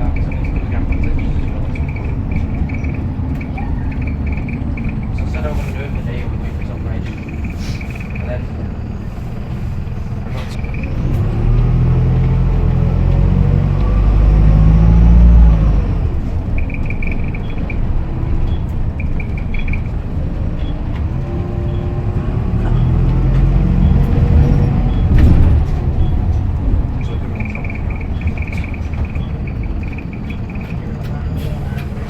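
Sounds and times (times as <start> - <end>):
turbo whistling: 0.0 - 11.0, 13.8 - 22.4, 23.6 - 32.0
bus engine accelerating: 0.0 - 32.0.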